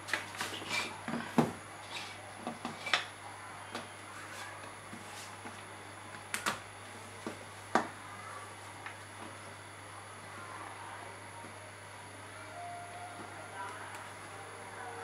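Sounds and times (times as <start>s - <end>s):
faint low hum: 0.5s - 15.0s.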